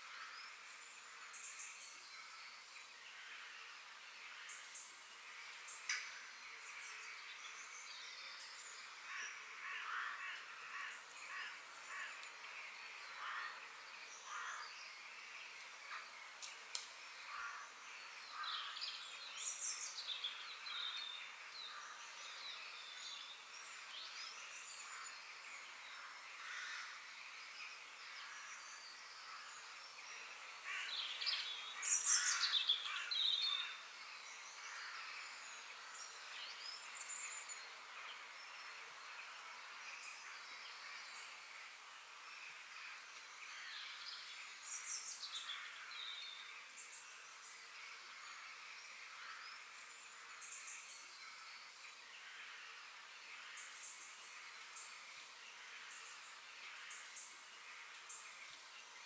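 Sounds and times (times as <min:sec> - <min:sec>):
steady faint hiss: 0:00.0 - 0:59.0.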